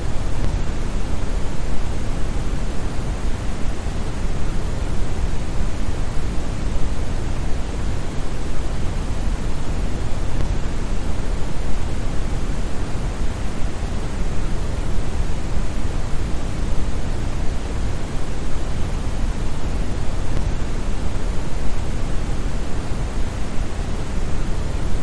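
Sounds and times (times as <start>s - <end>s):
brown noise: 0.0s - 25.0s.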